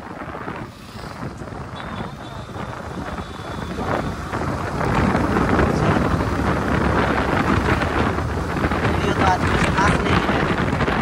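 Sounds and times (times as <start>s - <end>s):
motorcycle noise: 0.0s - 11.0s
wind rushing over microphone: 0.0s - 11.0s.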